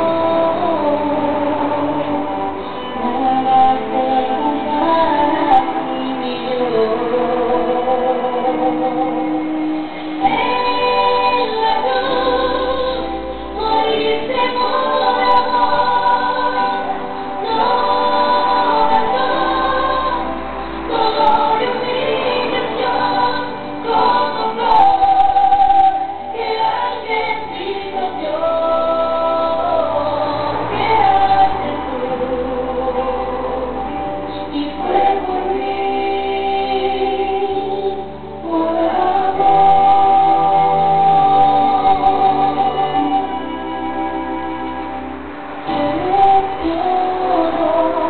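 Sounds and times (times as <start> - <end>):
choir singing gospel song: 0.0 - 48.0.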